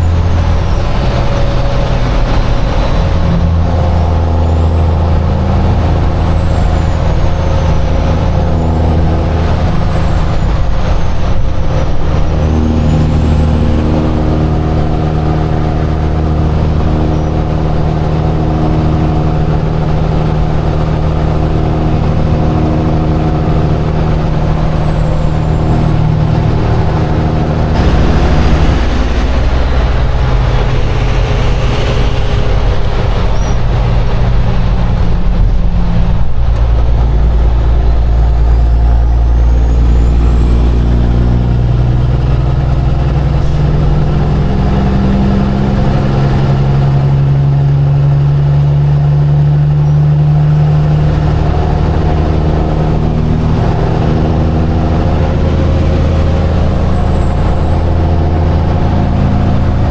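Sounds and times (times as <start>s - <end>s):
truck diesel engine running: 0.0s - 59.9s
tyre and road noise: 0.0s - 59.9s.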